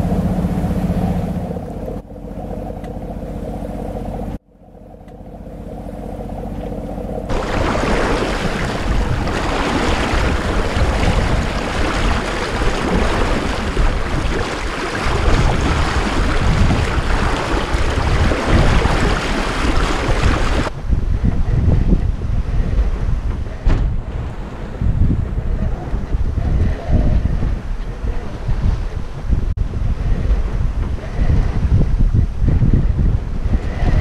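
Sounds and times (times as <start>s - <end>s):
boat engine running: 0.0s - 34.0s
water splashing against hull: 5.7s - 34.0s
wind buffeting microphone: 6.7s - 34.0s.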